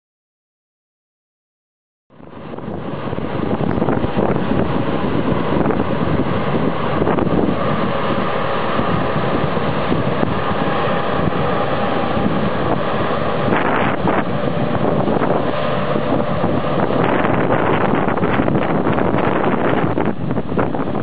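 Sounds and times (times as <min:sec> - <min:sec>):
combine harvester running: 0:02.1 - 0:21.0
wind buffeting microphone: 0:02.1 - 0:21.0.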